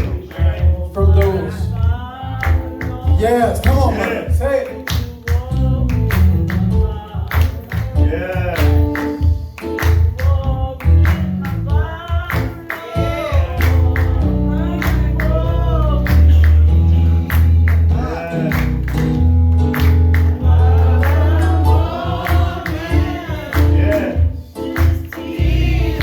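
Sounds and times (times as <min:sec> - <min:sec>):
gospel singing with band: 0:00.0 - 0:26.0.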